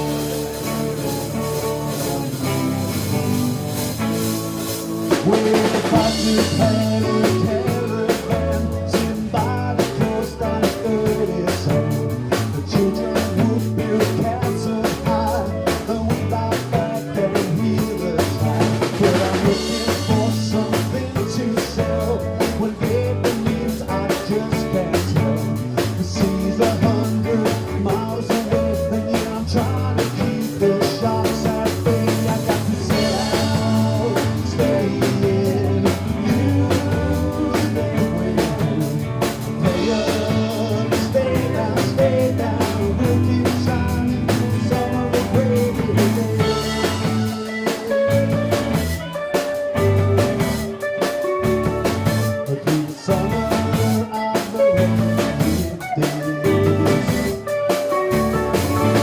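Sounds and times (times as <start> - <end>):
bass line: 0.0 - 59.0
drum kit beat: 0.0 - 59.0
live rock band playing: 0.0 - 59.0.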